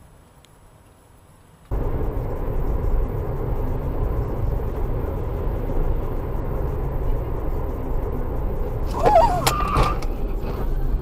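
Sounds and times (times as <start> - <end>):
car engine and tyre road noise: 0.0 - 11.0.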